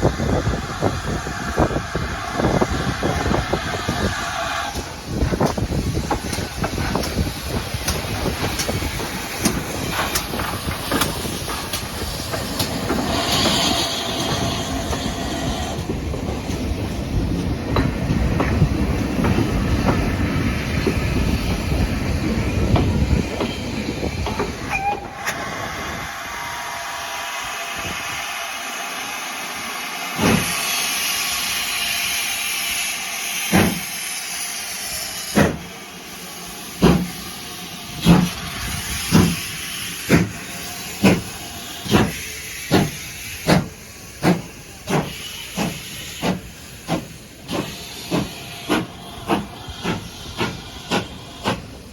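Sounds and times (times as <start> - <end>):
steam hissing: 0.0 - 51.9
train rumbling: 0.0 - 51.9.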